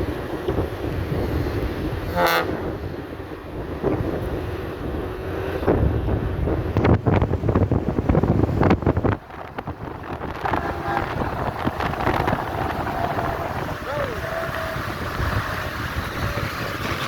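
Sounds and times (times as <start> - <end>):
low rumble of road traffic: 0.0 - 17.0
wind buffeting microphone: 0.0 - 17.0.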